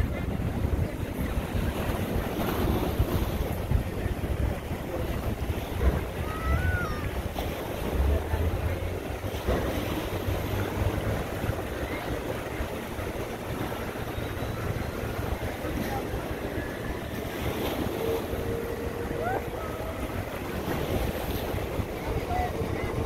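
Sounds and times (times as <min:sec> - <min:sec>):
choppy water splashing: 0:00.0 - 0:23.0
wind buffeting microphone: 0:00.0 - 0:23.0.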